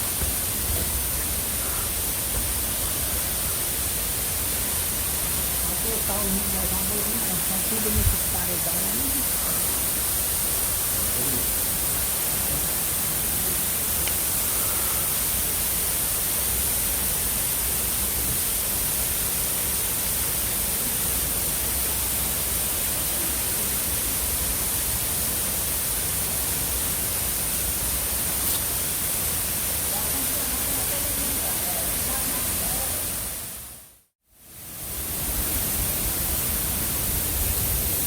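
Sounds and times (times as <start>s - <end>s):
waterfall rushing: 0.0s - 33.8s.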